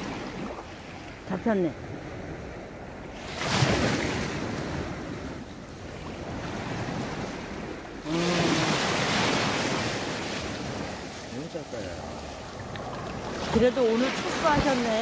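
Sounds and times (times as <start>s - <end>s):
small waves on stony shore: 0.0s - 15.0s.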